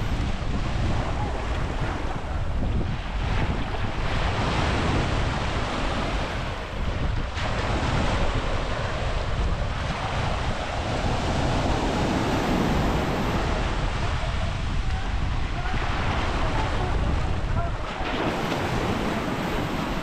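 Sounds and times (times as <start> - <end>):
sea surf breaking: 0.0 - 20.0
wind buffeting microphone: 0.0 - 20.0.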